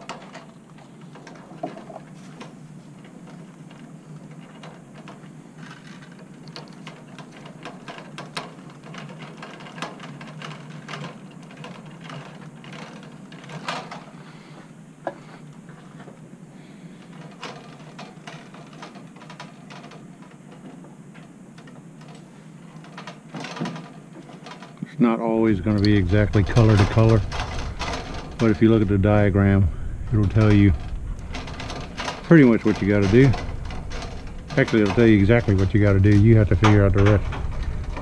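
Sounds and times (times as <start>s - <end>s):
clicks and rustles of handling wires: 0.0s - 38.0s
steady low hum: 0.0s - 38.0s.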